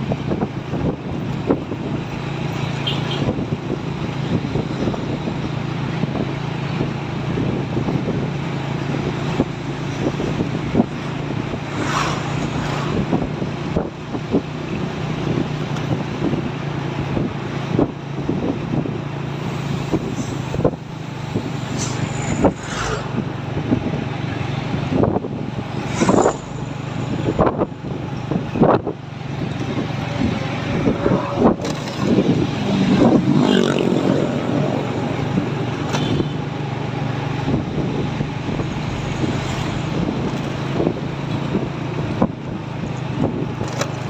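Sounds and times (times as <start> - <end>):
road noise: 0.0 - 44.0
vehicle engine drone: 0.0 - 44.0
wind buffeting microphone: 0.0 - 44.0.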